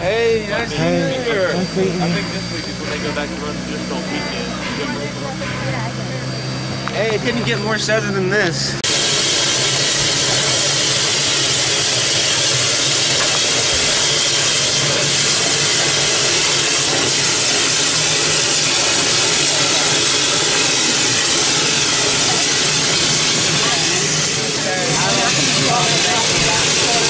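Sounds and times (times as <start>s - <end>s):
steam hissing: 0.0s - 8.1s, 8.8s - 27.0s.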